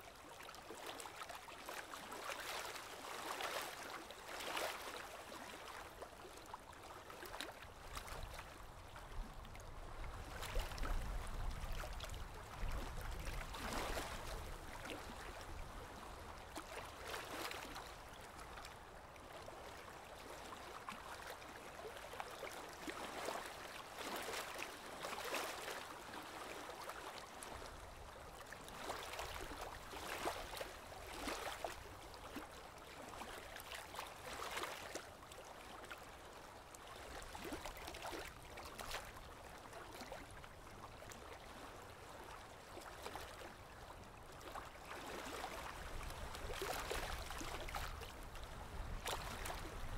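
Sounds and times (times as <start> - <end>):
small water splashes: 0.1 - 49.9.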